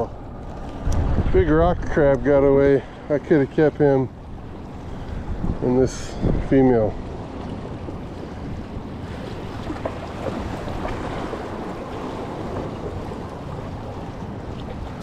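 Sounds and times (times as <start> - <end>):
ocean surf rushing: 0.0 - 15.0
wind: 0.0 - 15.0.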